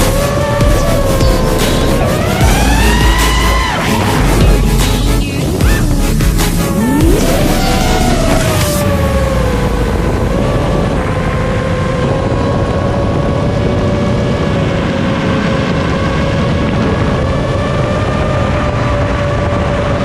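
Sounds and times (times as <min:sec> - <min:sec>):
drone motors whining: 0:00.0 - 0:20.0
wind noise: 0:00.0 - 0:20.0.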